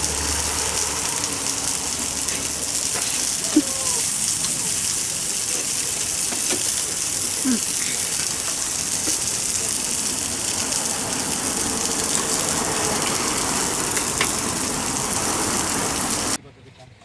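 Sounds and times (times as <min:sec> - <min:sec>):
food sizzling on a grill: 0:00.0 - 0:16.4
heavy rain hissing: 0:00.0 - 0:16.4.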